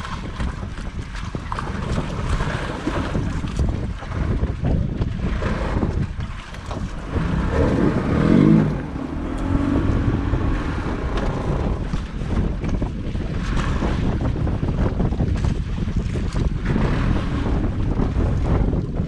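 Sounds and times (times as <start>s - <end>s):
sea water washing: 0.0s - 19.0s
wind buffeting microphone: 0.0s - 19.0s.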